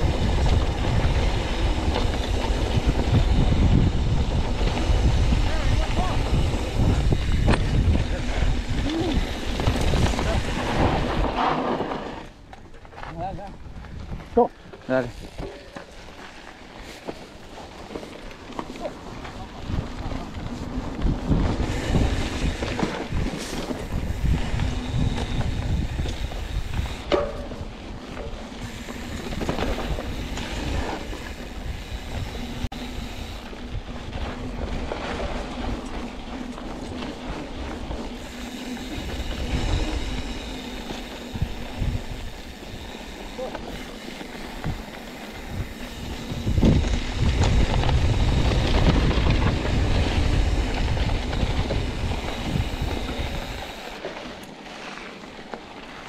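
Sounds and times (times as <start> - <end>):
wind buffeting microphone: 0.0 - 11.5, 13.2 - 15.4, 19.1 - 54.0
bike rattling and clattering: 0.0 - 56.0
tyres rumbling over dirt: 0.0 - 56.0.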